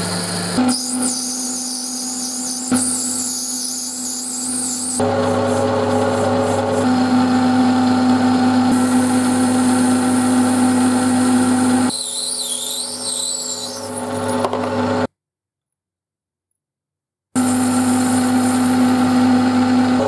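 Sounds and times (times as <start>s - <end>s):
power tool motor humming: 0.0s - 15.1s, 17.4s - 20.0s.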